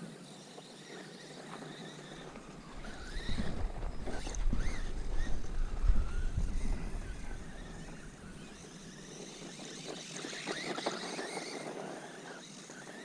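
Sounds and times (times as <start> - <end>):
rc truck motor whine: 0.0 - 13.0.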